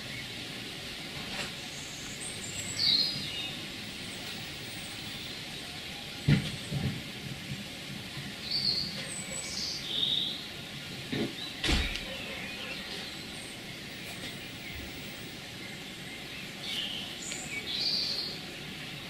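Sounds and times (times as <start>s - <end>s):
small birds chirping: 0.0s - 6.8s, 8.2s - 19.0s.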